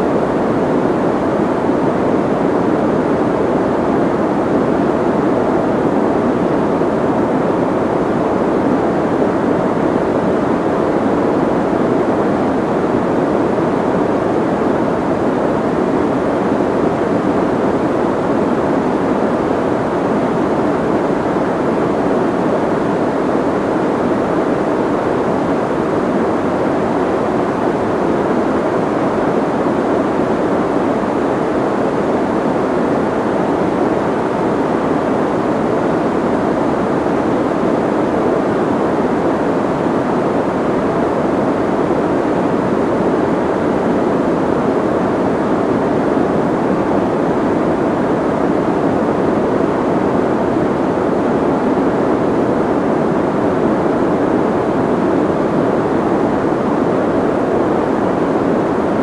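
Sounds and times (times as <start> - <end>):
soft white noise: 0.0 - 59.0.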